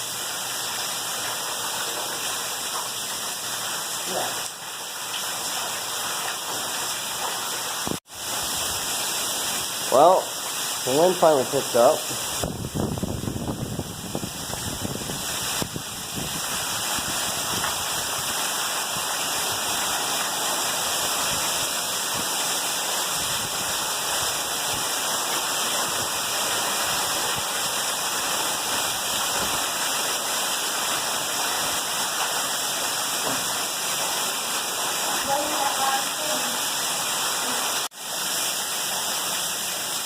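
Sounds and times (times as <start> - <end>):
heavy rain and wind: 0.0 - 40.0.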